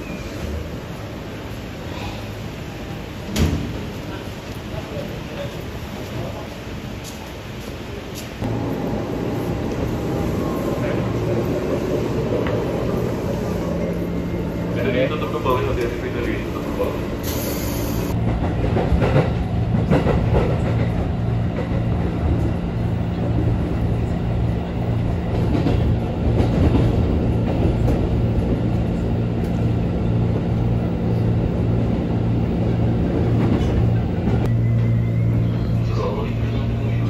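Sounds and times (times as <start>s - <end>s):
train hum inside carriage: 0.0s - 37.0s
train rumble and rail noise: 0.0s - 37.0s.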